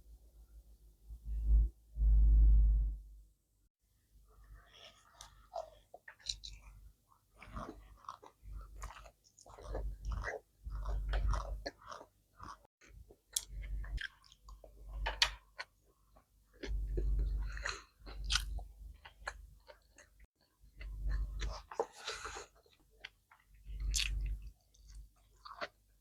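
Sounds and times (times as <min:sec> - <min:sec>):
person chewing food: 0:04.6 - 0:25.8.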